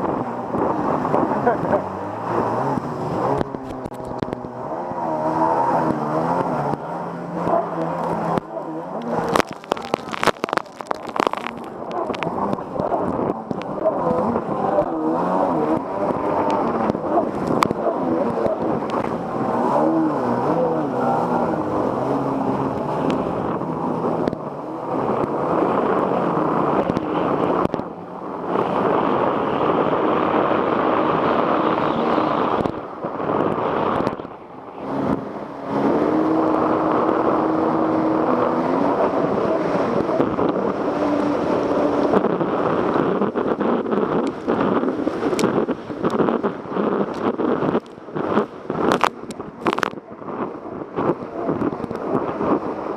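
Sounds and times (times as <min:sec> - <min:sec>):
jet ski engine revving: 0:00.0 - 0:52.9.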